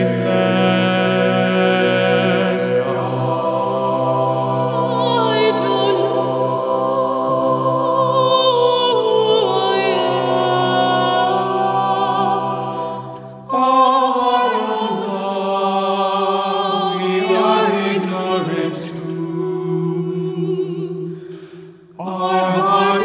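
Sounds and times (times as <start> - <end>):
mixed choir singing held chords: 0.0 - 23.0.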